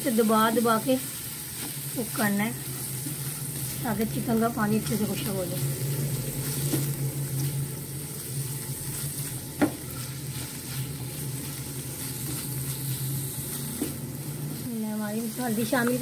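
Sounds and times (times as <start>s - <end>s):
chicken sizzling in a frying pan: 0.0s - 16.0s
spatula stirring: 1.4s - 14.6s.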